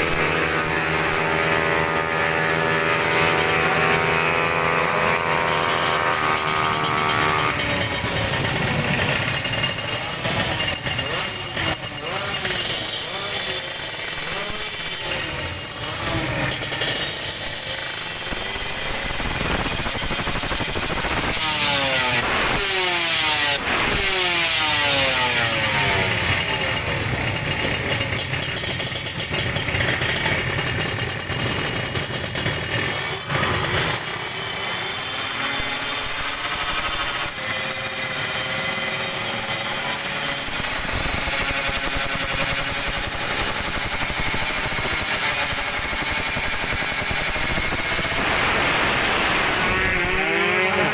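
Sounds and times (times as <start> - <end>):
racing motorcycles revving past: 0.0 - 26.8, 32.5 - 50.9.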